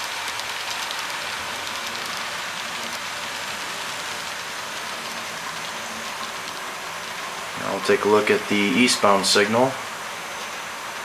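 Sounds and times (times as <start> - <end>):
model train wheels on track: 0.0 - 11.0.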